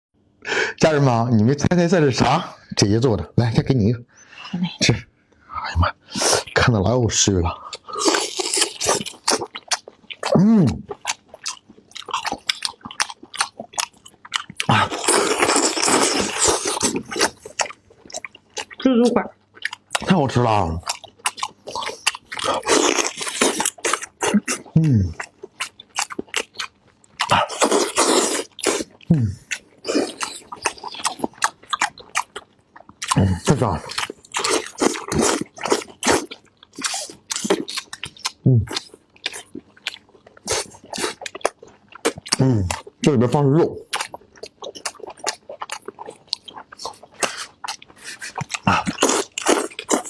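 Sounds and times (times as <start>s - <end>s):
person chewing food: 7.5s - 43.0s, 43.8s - 50.0s.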